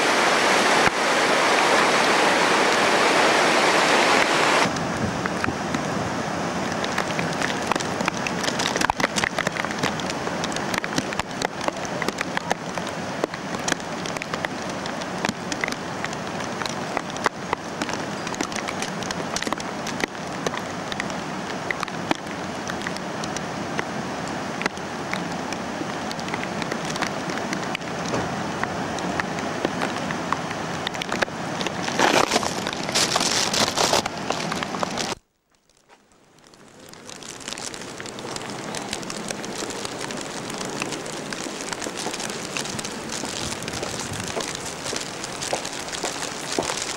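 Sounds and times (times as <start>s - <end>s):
small crackles: 6.6s - 23.9s, 24.6s - 28.2s, 28.9s - 46.9s.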